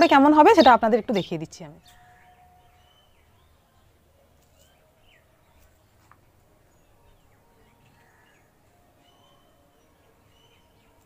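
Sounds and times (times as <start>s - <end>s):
bird chirps: 0.2s - 5.7s, 6.7s - 11.0s.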